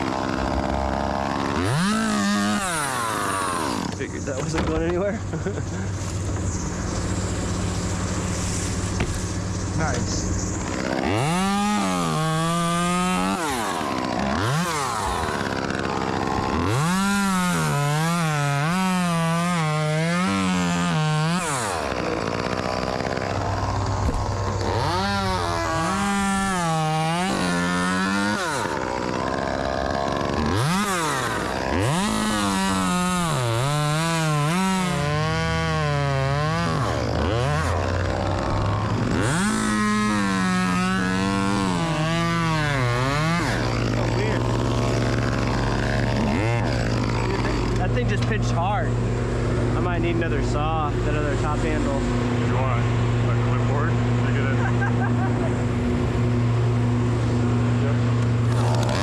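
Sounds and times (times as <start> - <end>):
chainsaw cutting wood: 0.0 - 59.0
low engine hum: 0.0 - 59.0.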